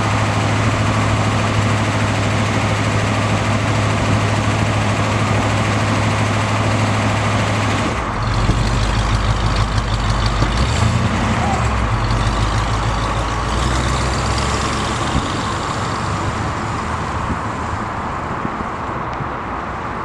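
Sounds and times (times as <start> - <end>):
car engine idling: 0.0 - 18.4.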